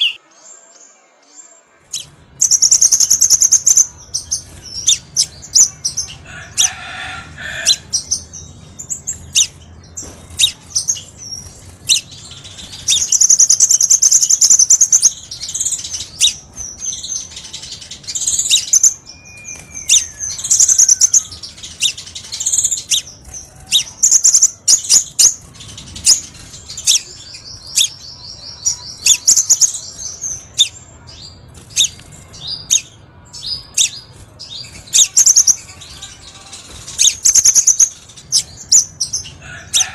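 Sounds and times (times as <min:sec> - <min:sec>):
bird chirping and trilling: 0:00.0 - 0:00.5, 0:01.9 - 0:39.9.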